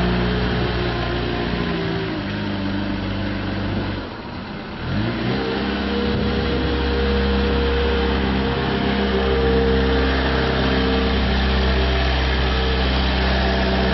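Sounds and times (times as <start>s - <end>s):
diesel engine revving: 0.0s - 13.9s.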